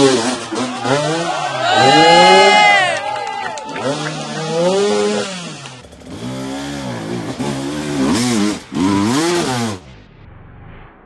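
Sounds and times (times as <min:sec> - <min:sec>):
dirt bike engine revving: 0:00.0 - 0:03.0, 0:03.7 - 0:09.9.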